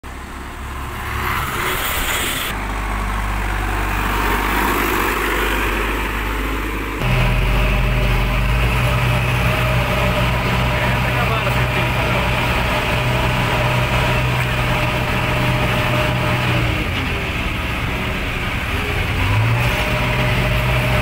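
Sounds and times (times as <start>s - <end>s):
backhoe loader engine running: 0.0s - 21.0s
bus driving by: 0.0s - 21.0s
engine drone from inside cab: 0.0s - 21.0s.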